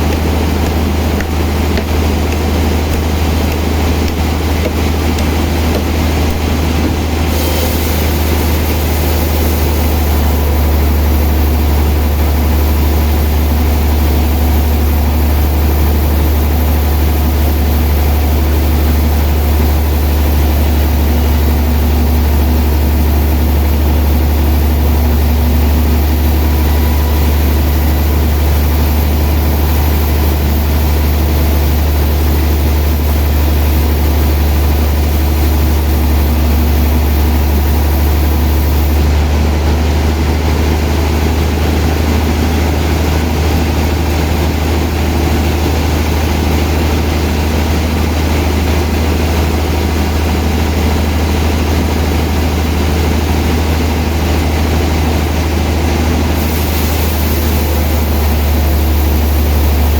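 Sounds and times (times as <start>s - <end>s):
machinery whirring: 0.0s - 50.1s, 56.2s - 59.9s
sawmill machinery deep hum: 0.0s - 59.9s.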